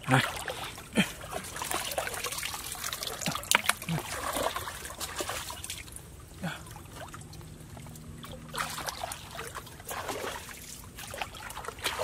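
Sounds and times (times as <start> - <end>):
fish splashing in bucket water: 0.0 - 12.0.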